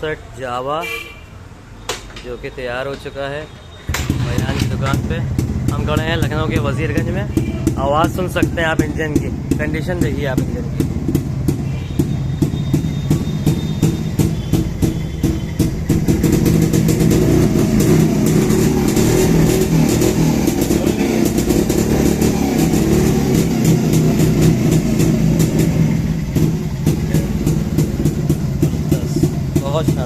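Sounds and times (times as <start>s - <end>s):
two-stroke motorcycle engine running: 3.9s - 30.0s.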